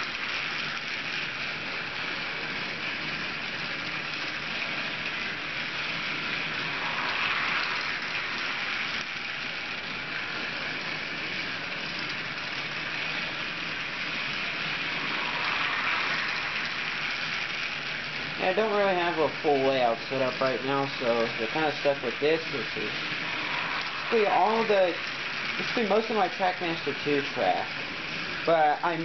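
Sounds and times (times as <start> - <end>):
toy train cars rattling: 0.0 - 29.0
toy train running on track: 0.0 - 29.0.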